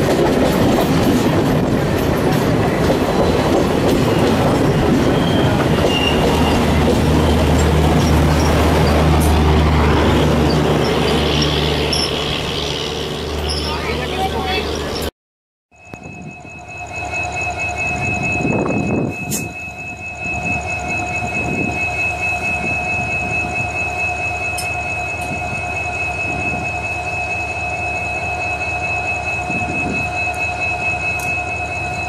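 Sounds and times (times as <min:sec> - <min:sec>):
train approaching rumble: 0:00.0 - 0:15.1, 0:15.9 - 0:32.0.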